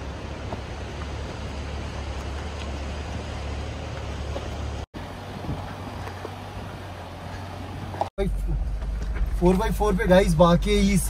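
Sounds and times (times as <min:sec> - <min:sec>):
vehicle engine running low: 0:00.0 - 0:11.0.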